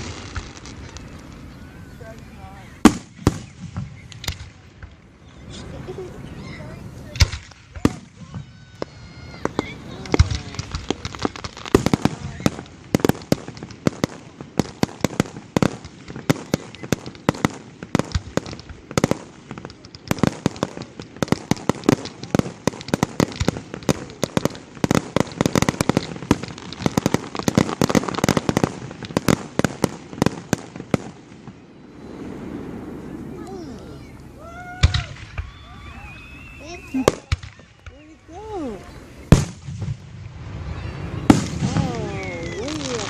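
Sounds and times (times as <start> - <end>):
fireworks bangs and pops: 0.0 - 43.0.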